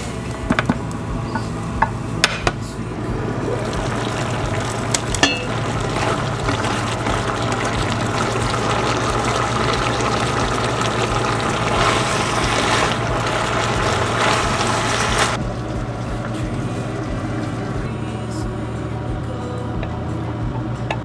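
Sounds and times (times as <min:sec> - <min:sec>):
constant low hum: 0:00.0 - 0:21.0
running water rushing: 0:00.0 - 0:21.0.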